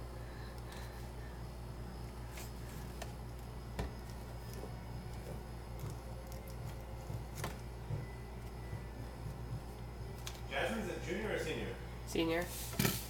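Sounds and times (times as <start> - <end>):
refrigerator hum: 0.0 - 13.0.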